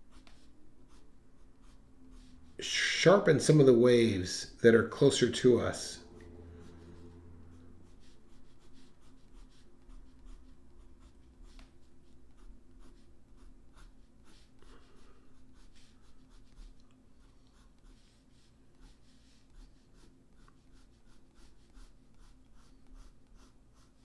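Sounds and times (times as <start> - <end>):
pencil scratching on paper: 0.0 - 2.7, 6.5 - 24.0.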